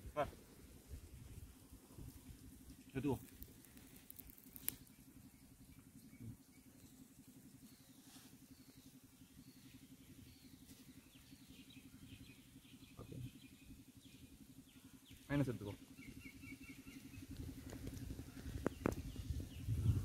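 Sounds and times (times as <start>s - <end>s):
low steady hum: 0.0s - 20.0s
faint bird chirps: 3.0s - 20.0s.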